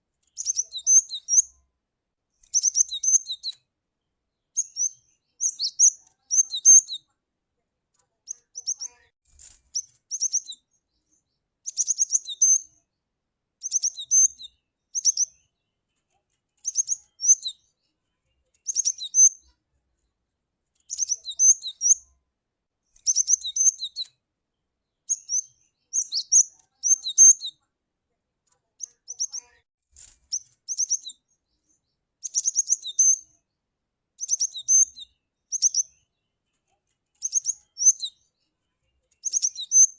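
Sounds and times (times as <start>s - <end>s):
bird chirping: 0.0s - 1.6s, 2.3s - 7.1s, 8.2s - 13.0s, 13.6s - 20.1s, 20.7s - 22.2s, 22.9s - 27.6s, 28.6s - 33.5s, 34.2s - 39.9s.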